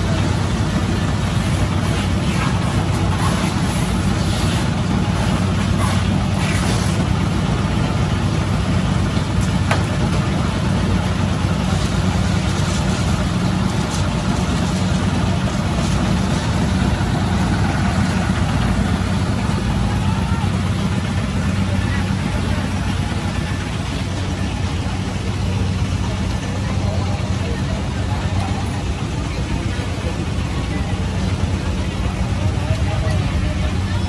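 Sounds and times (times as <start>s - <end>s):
motor engine idling: 0.0s - 34.0s
street traffic: 0.0s - 34.0s.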